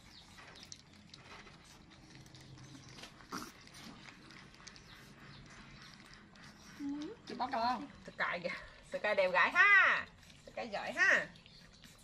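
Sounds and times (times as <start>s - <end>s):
puppies lapping from a plate: 0.0s - 12.0s.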